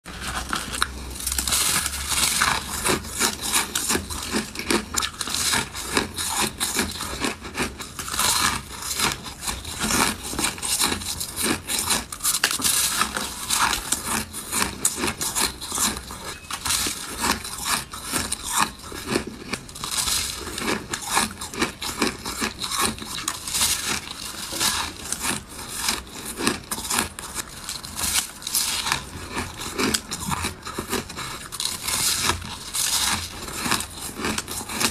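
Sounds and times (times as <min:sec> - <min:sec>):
chewing crunchy shaved ice: 0:00.0 - 0:34.9.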